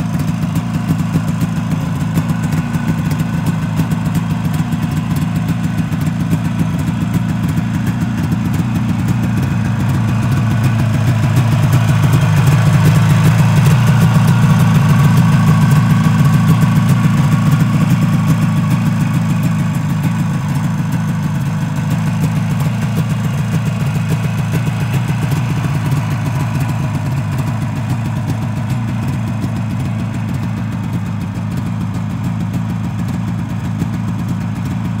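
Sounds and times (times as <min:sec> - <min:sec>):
snowmobile engine idling: 0:00.0 - 0:35.0.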